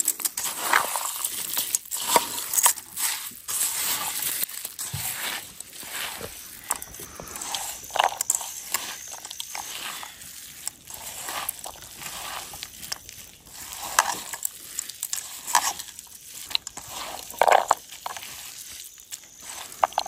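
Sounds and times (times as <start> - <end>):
puffed rice mixed by hand in bowl: 0.0 - 20.0.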